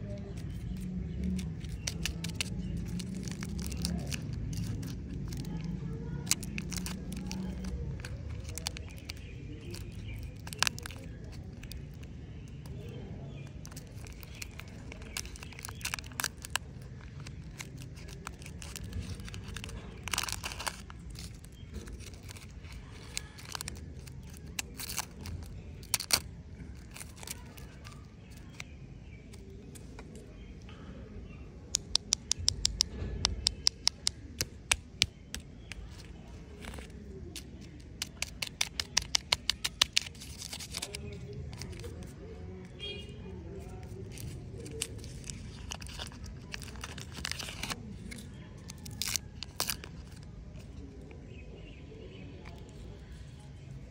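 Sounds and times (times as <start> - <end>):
wrappers crinkling and tearing: 0.0 - 28.7, 33.4 - 42.9, 43.5 - 51.0.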